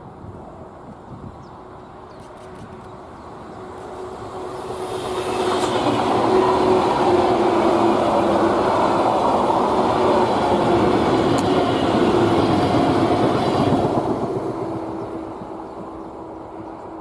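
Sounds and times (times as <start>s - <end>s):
freight train rumbling past: 1.4s - 17.0s.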